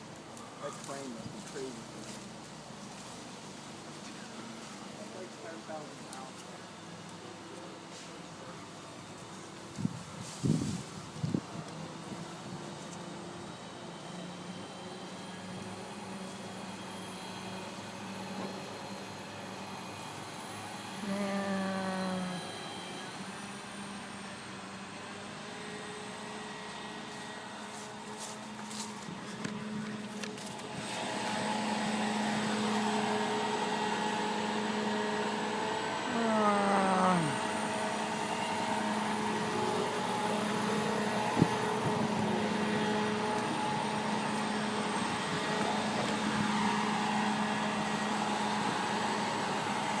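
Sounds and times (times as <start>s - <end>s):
crane engine running: 0.0s - 50.0s.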